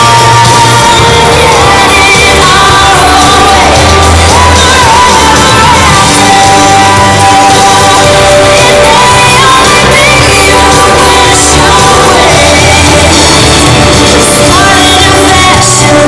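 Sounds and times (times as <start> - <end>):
loud pop music with singing: 0.0 - 16.0.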